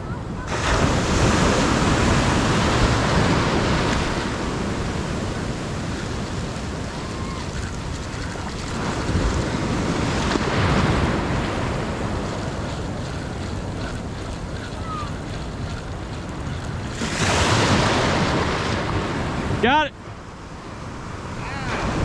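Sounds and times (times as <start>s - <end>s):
wind buffeting microphone: 0.0s - 19.6s
ocean surf washing on beach: 0.0s - 22.0s.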